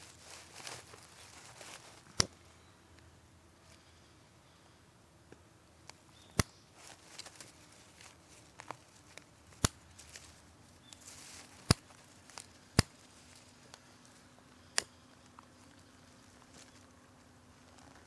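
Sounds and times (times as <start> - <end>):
soft hiss: 0.0 - 18.0.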